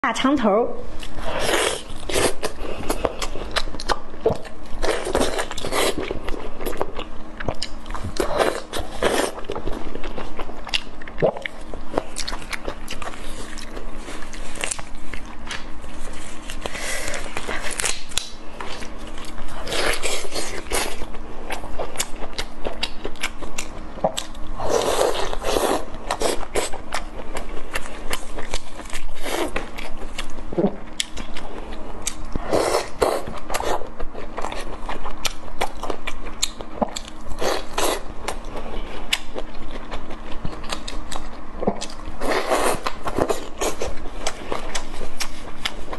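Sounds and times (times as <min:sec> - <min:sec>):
wet chewing: 0:01.0 - 0:45.9.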